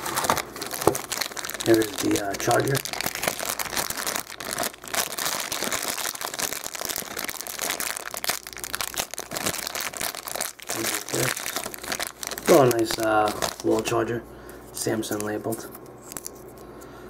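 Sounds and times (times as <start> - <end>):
plastic bag crinkling: 0.0 - 14.1, 14.8 - 16.6.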